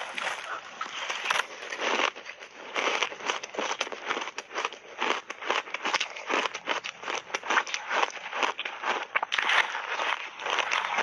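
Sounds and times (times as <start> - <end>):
ice being chewed: 0.0 - 11.0.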